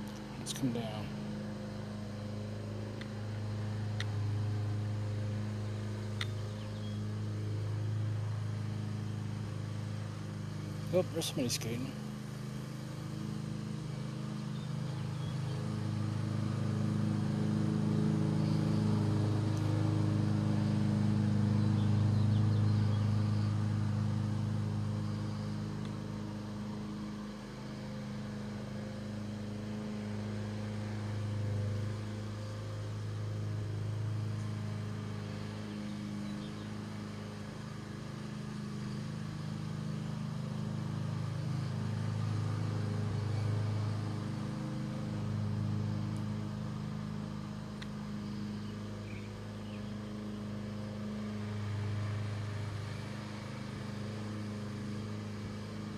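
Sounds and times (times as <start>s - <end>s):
drone propellers humming: 0.0s - 55.9s.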